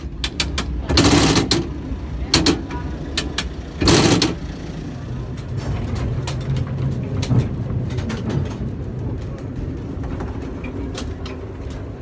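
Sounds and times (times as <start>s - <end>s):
clacks and rattles: 0.0s - 4.5s, 5.2s - 12.0s
tram rumbling on rails: 0.0s - 12.0s.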